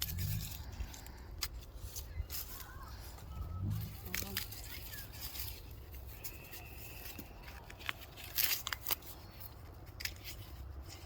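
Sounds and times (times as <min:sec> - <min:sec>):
dry corn husks rustling: 0:00.0 - 0:11.0.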